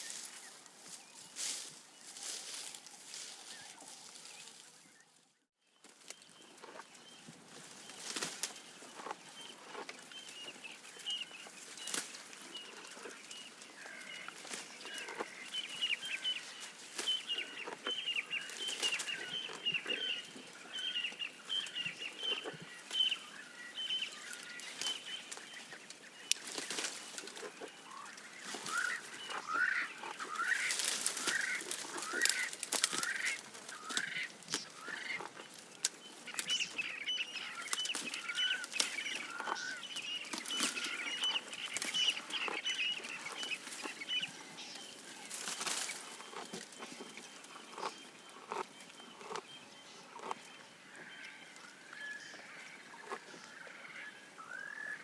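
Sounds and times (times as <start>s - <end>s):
giraffe crunching leaves: 0.0s - 5.2s, 5.8s - 53.4s
birds chirping: 0.0s - 55.0s.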